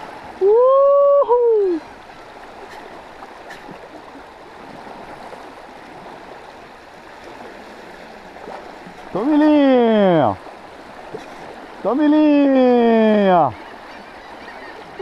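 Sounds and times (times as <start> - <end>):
river water rushing and splashing: 0.0 - 15.0.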